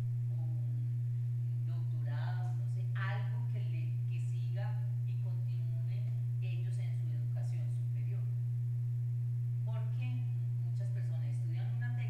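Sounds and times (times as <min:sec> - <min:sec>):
loud low hum: 0:00.0 - 0:12.0
woman speaking into microphone: 0:00.3 - 0:00.9, 0:01.5 - 0:08.4, 0:09.7 - 0:12.0.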